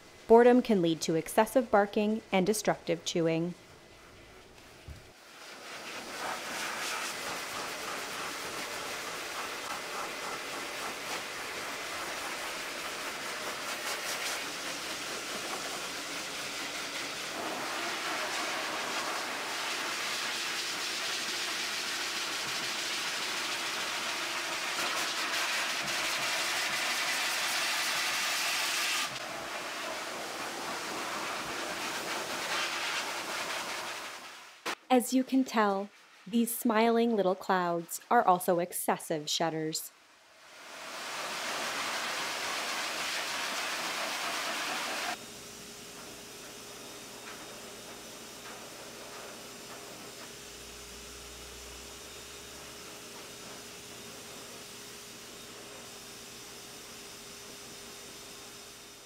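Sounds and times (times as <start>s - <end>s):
dryer blowing air hiss: 5.1s - 34.8s, 40.4s - 58.8s.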